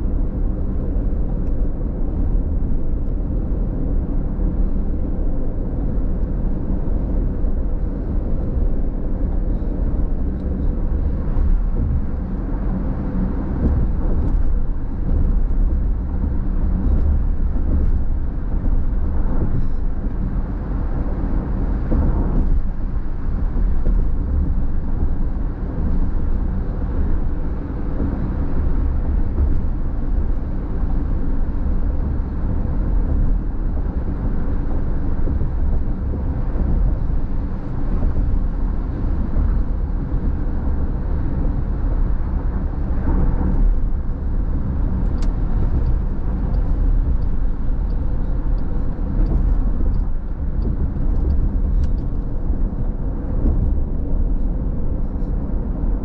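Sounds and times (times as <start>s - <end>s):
road and tyre noise inside car: 0.0s - 56.0s.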